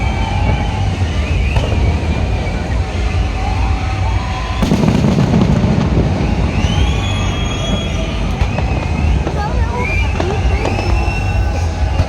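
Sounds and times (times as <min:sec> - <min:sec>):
firework bang: 0:00.0 - 0:12.0
low rumble of firework bursts: 0:00.0 - 0:12.0.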